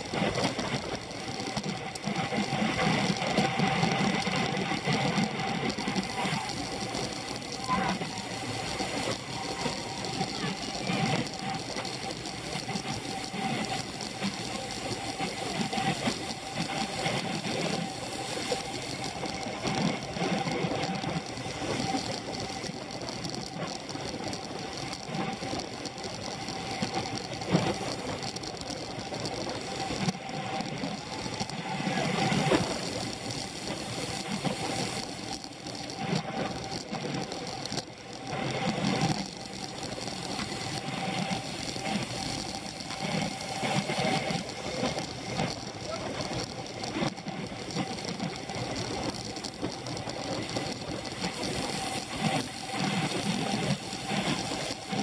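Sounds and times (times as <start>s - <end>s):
bicycle drivetrain noise: 0.0s - 55.0s
road noise: 0.0s - 55.0s.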